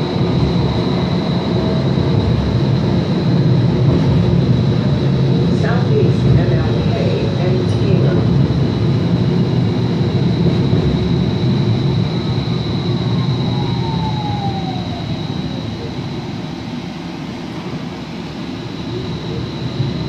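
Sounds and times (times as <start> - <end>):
streetcar high whine: 0.0 - 20.0
streetcar rumble: 0.0 - 20.0.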